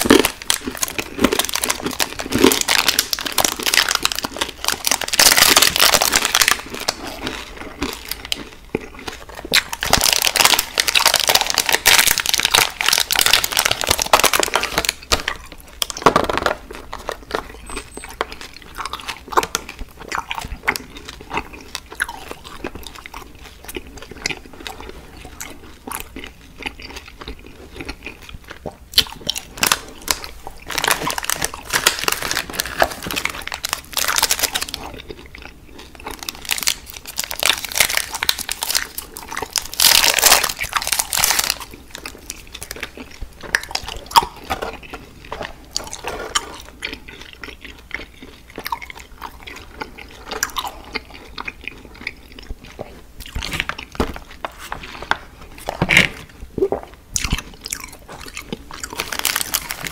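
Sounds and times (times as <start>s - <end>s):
chewing and crunching candy: 0.0s - 59.9s.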